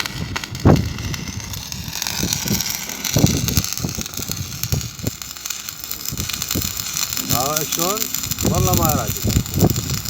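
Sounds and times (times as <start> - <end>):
welding arc hissing and crackling: 0.0 - 10.0.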